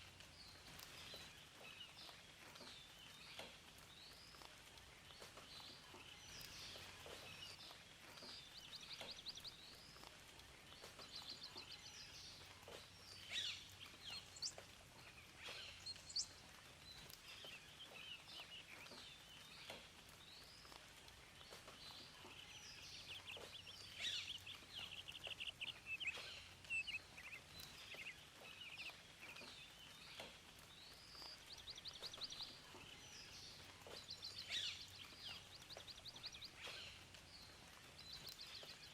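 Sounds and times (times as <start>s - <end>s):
faint background hiss: 0.0s - 38.9s
songbirds singing and calling: 0.0s - 38.9s.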